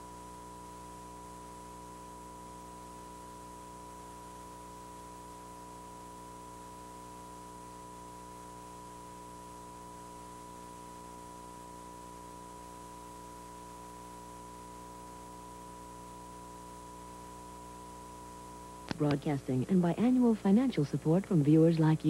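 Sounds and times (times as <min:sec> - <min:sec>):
low buzzing hum: 0:00.0 - 0:22.0
tape hiss: 0:00.0 - 0:22.0.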